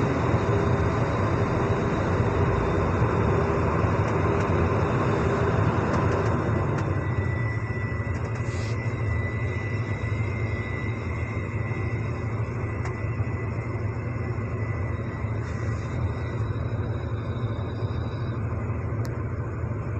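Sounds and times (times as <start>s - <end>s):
thin high whine: 0.0s - 19.8s
diesel engine rumbling: 0.0s - 19.9s.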